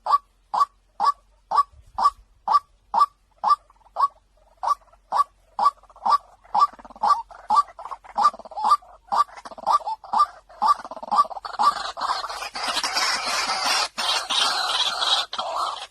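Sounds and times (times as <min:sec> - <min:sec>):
overlapping bird calls: 0:00.0 - 0:15.9
waterhen kwak calls: 0:00.0 - 0:15.9.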